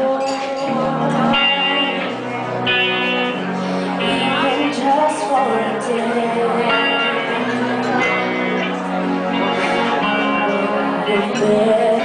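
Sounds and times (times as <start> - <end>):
guitar-led pop ballad: 0.0 - 12.0.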